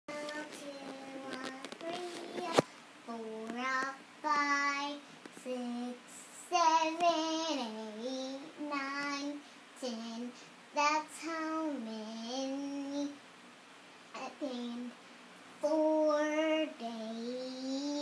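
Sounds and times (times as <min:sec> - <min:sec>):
young girl singing: 0:00.1 - 0:13.2, 0:14.1 - 0:15.0, 0:15.6 - 0:18.0.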